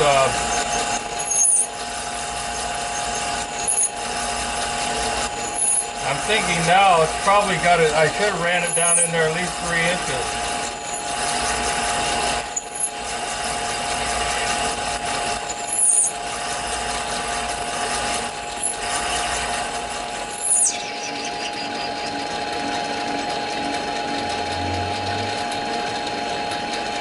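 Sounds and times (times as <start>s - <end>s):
reamer scraping with squeals: 0.0s - 25.9s
lathe running with a whine: 0.0s - 27.0s.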